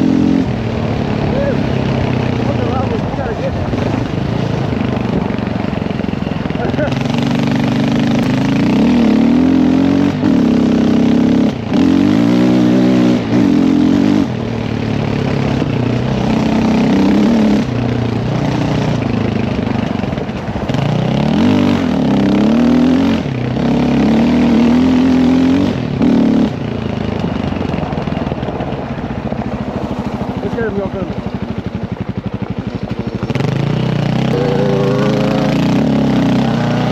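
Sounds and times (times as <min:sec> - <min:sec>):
dirt bike engine revving: 0:00.0 - 0:27.7, 0:32.5 - 0:36.9.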